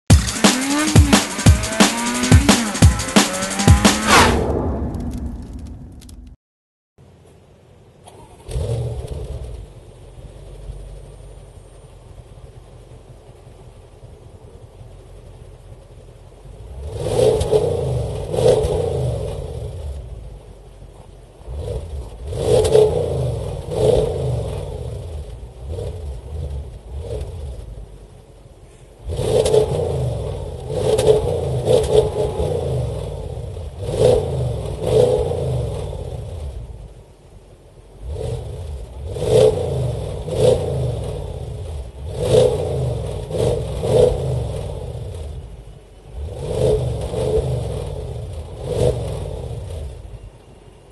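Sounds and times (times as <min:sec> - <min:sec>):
car engine revving: 0:00.0 - 0:06.4, 0:07.5 - 0:50.9.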